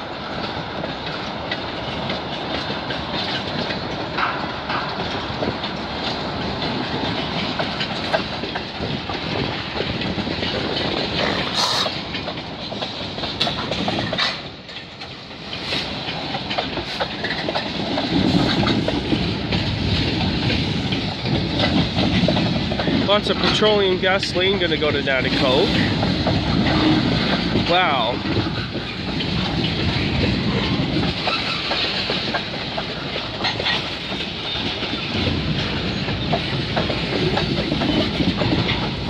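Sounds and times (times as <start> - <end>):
clickety-clack over rail joints: 0.0 - 39.0
freight train wheels rumbling: 0.0 - 39.0.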